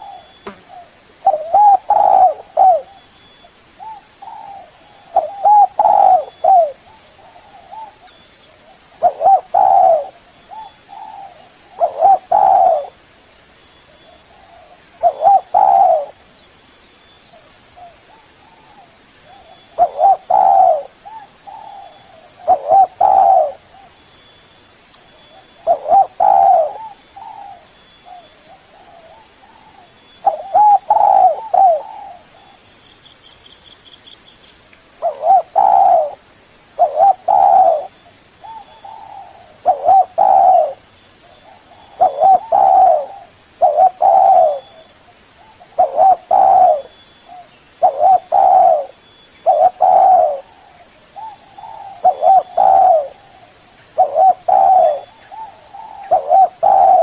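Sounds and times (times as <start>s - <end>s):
dove cooing: 0.0s - 3.1s, 3.8s - 13.0s, 14.0s - 16.2s, 17.8s - 24.0s, 25.3s - 32.6s, 35.0s - 36.2s, 36.8s - 57.0s.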